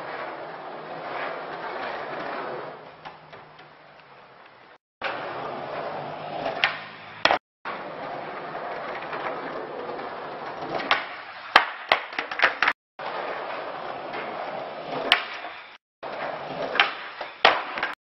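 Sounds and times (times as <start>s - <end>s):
skateboard rolling on asphalt: 0.0s - 18.0s
skateboard clacking on ground: 2.2s - 18.0s.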